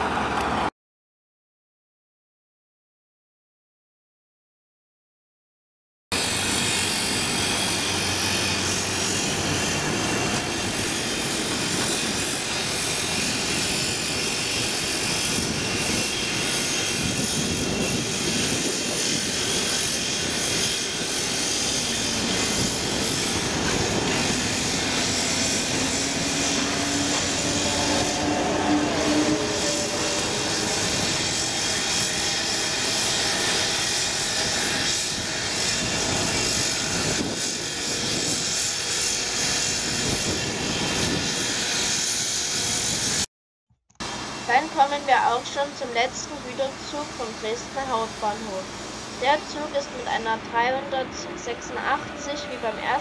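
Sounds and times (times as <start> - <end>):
drawn-out engine tone: 6.2 - 43.2, 44.0 - 53.0
trains running through station: 6.2 - 43.2, 44.0 - 53.0.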